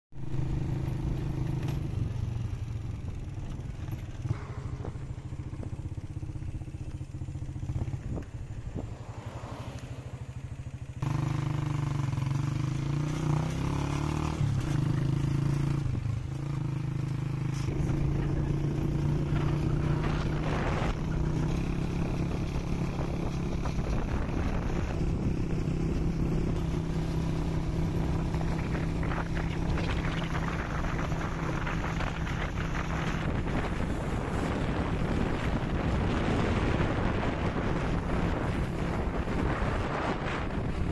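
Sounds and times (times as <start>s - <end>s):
vehicle engine running: 0.2s - 40.9s.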